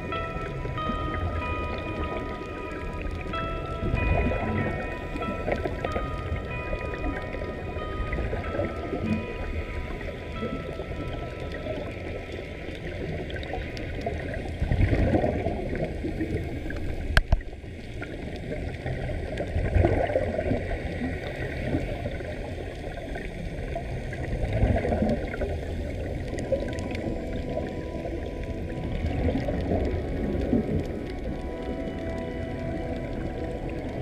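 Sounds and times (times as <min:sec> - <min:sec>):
underwater bubbles gurgling: 0:00.0 - 0:34.0.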